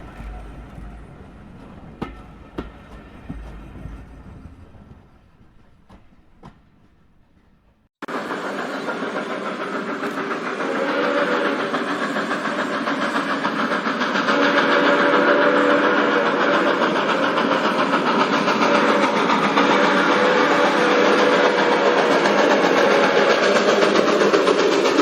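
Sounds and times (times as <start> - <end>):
train running past: 0.0 - 25.0.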